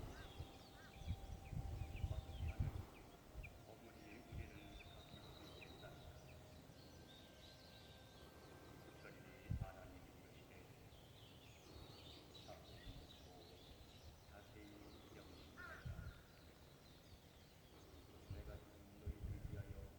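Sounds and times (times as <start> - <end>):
birds chirping and calling: 0.0 - 19.9.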